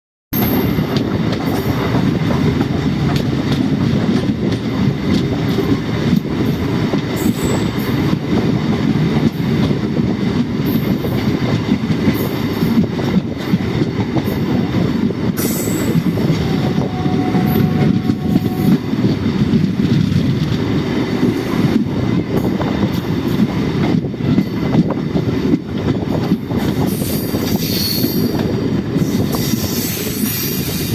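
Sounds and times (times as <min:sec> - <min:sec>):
train rumbling and rattling: 0:00.4 - 0:30.9.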